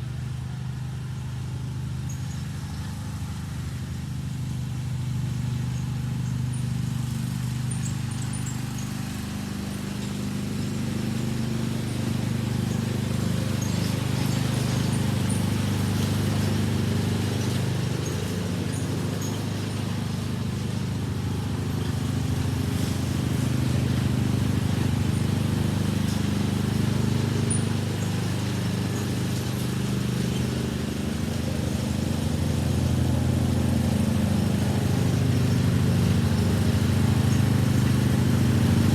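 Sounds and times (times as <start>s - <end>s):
riding lawn mower engine: 0.0s - 38.9s.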